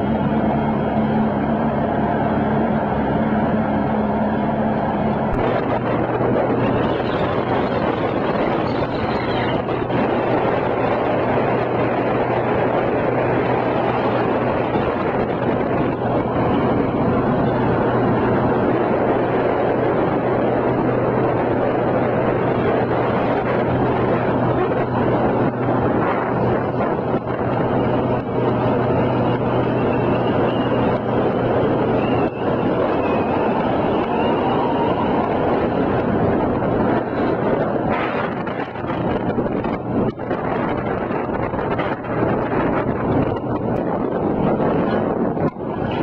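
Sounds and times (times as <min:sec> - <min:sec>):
boat motor humming: 0:00.0 - 0:46.0
wind and water rushing: 0:00.0 - 0:46.0.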